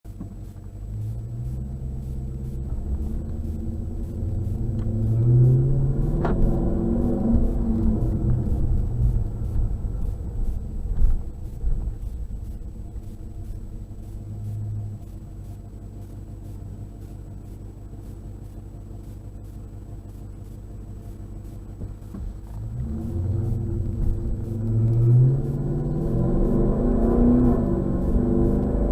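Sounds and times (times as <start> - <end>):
car exhaust low rumble: 0.0 - 28.9.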